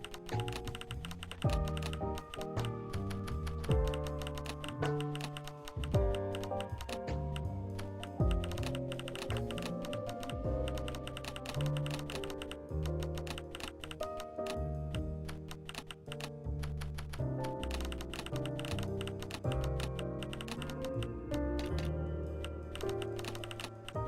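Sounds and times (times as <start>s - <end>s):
rapid keyboard typing clicks: 0.0s - 7.1s, 7.8s - 14.6s, 15.3s - 21.0s, 22.7s - 23.9s
background music with bass chords: 0.3s - 14.1s, 16.4s - 24.0s.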